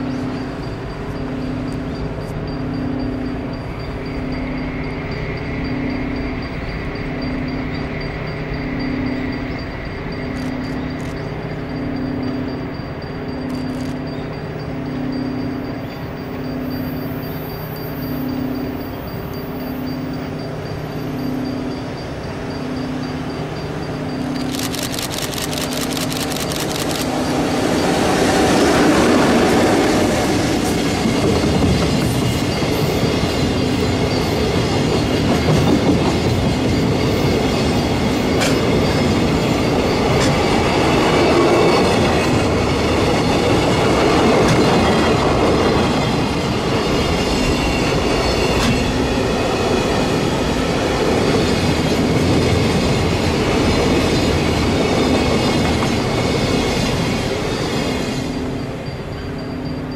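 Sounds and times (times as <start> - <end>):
train wheels clattering over rails: 0.0 - 59.8.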